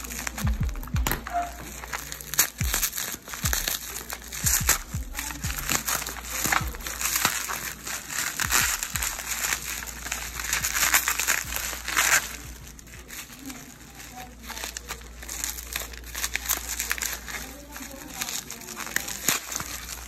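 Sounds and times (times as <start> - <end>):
bubble wrap crinkling: 0.0 - 20.0.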